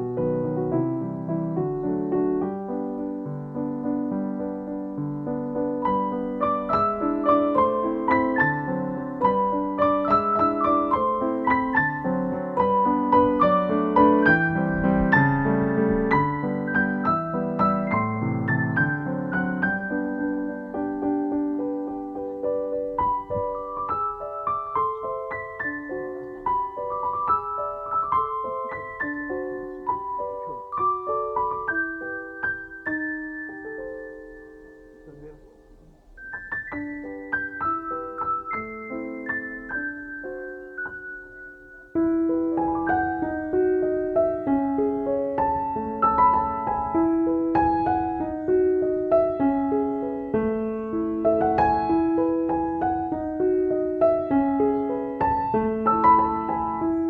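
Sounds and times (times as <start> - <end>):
gentle piano music: 0.0 - 57.0.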